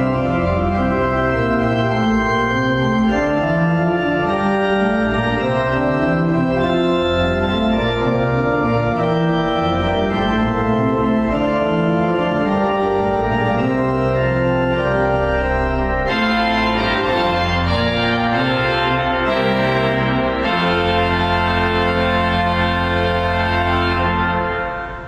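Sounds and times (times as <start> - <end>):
pipe organ playing chords: 0.0 - 25.0.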